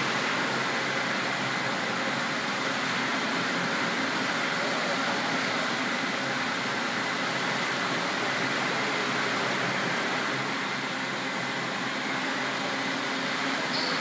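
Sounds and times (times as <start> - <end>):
machinery and ventilation hum: 0.0 - 14.0.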